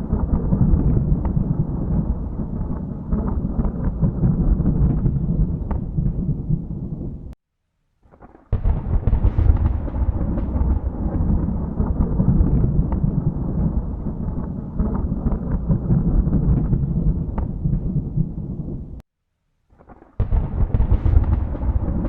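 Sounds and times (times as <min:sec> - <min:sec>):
thunder rumbling: 0:00.0 - 0:07.4, 0:08.5 - 0:19.0, 0:20.2 - 0:22.0.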